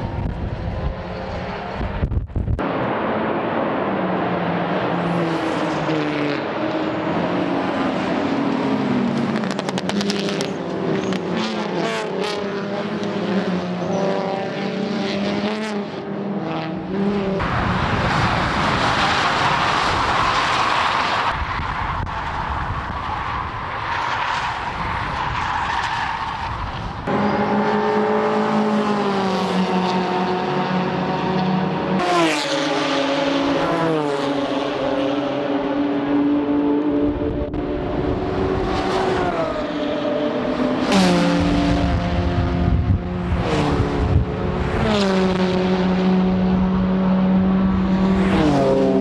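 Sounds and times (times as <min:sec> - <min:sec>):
racing car engines revving: 0:00.0 - 0:49.0
cars passing close: 0:02.6 - 0:49.0.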